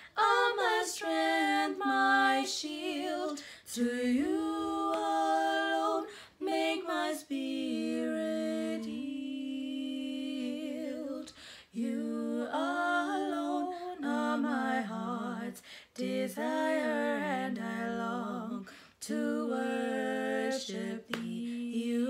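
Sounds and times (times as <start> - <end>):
women singing a cappella: 0.0 - 22.0.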